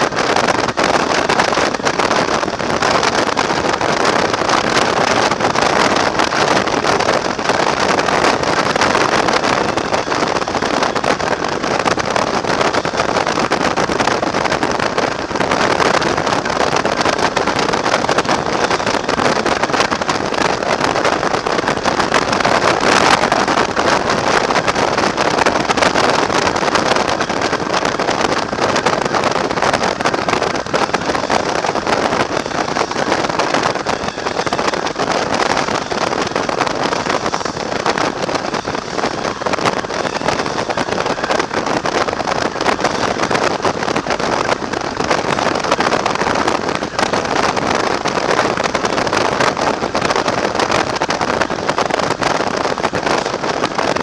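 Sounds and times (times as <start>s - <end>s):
motorcycle running and tyre noise: 0.0s - 54.0s
wind rushing over camera: 0.0s - 54.0s.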